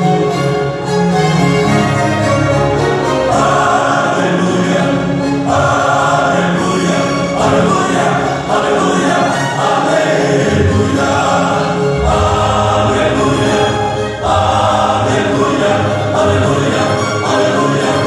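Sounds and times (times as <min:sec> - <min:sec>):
choir singing in harmony: 0:00.0 - 0:18.0.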